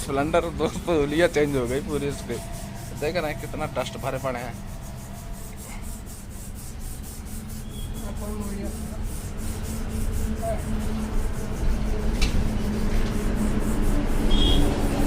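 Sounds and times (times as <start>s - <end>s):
scrubbing by hand: 0.0s - 15.0s.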